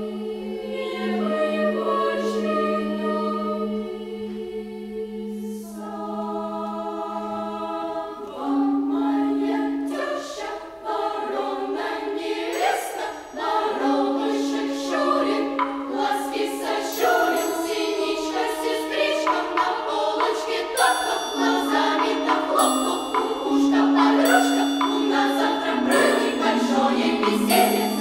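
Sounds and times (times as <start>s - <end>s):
children's choir singing: 0.0s - 28.0s.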